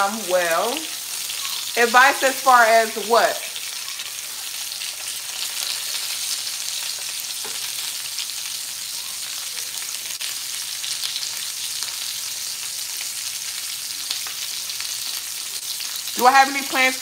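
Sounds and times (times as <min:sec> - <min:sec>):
chicken sizzling in hot oil: 0:00.0 - 0:17.0
oil popping and crackling: 0:00.0 - 0:17.0.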